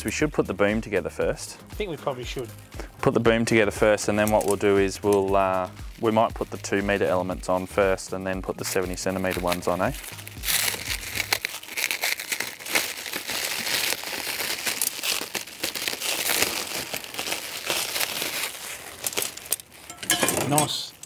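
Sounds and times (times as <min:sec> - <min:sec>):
plastic shrink wrap crinkling: 0:01.8 - 0:21.0.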